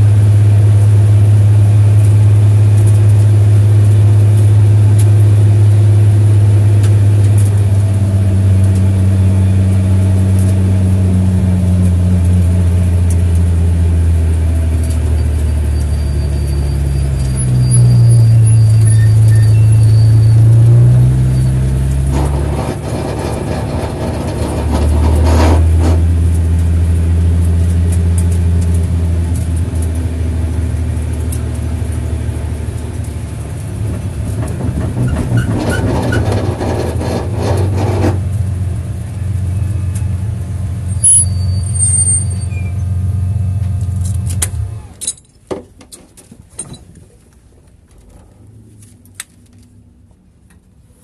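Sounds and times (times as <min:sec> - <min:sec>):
car engine running: 0:00.0 - 0:20.0, 0:20.6 - 0:41.6.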